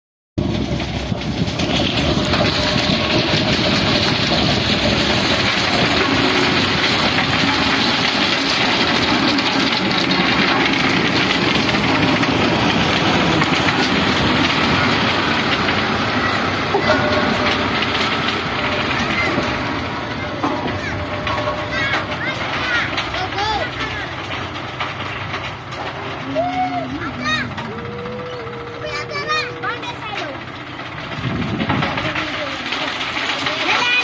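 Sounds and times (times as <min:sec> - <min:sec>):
steel wheels rumbling on rails: 0:00.4 - 0:34.0
tractor diesel engine running: 0:00.4 - 0:34.0.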